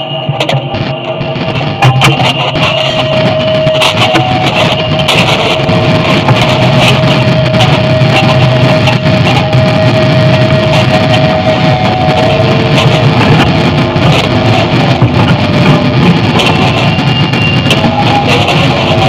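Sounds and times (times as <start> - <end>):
electronic noise music: 0.0 - 19.0
steady tone: 0.0 - 19.0.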